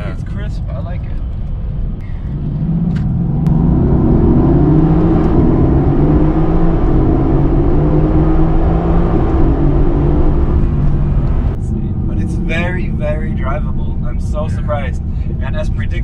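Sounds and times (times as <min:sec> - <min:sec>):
car engine accelerating: 0:01.3 - 0:16.0.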